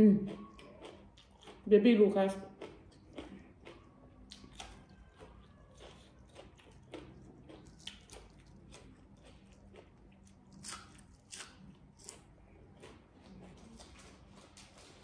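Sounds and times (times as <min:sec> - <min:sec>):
chewing crunches and smacks: 0:00.2 - 0:15.0.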